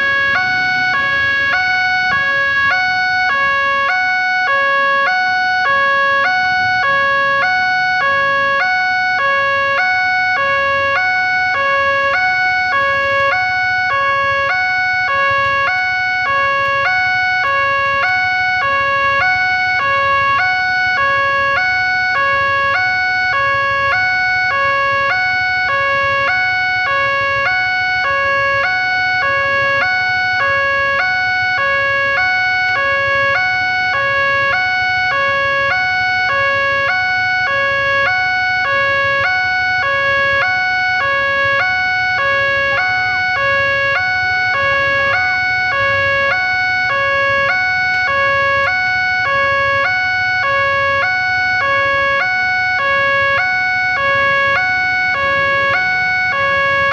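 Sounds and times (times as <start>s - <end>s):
level crossing two-tone siren: 0.0s - 56.9s.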